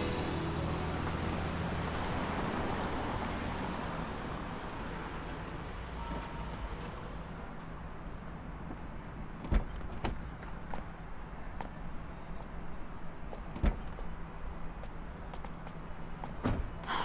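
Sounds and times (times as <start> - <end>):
van engine and tyre noise: 0.0 - 17.0.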